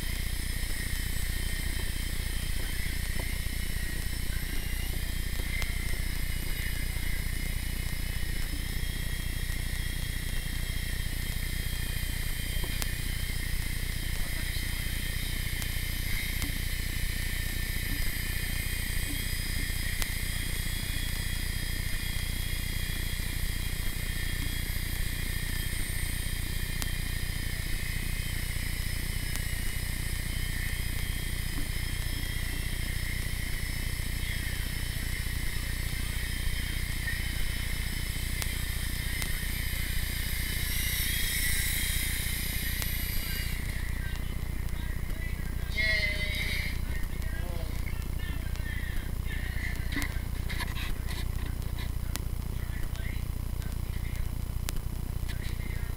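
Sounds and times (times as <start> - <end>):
rc helicopter whine: 0.0 - 55.9.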